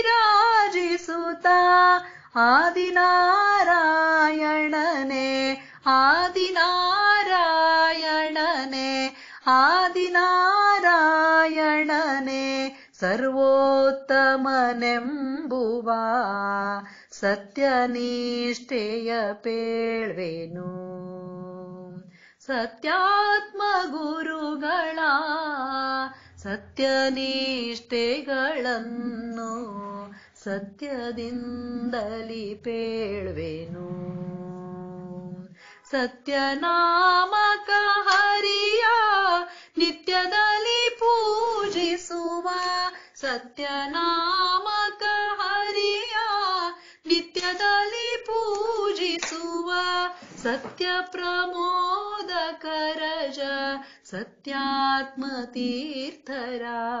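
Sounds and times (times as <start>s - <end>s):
woman singing: 0.0s - 57.0s.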